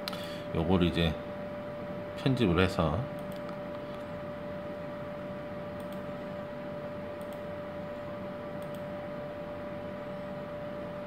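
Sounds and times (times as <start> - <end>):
steady mid-pitched hum: 0.0 - 11.0.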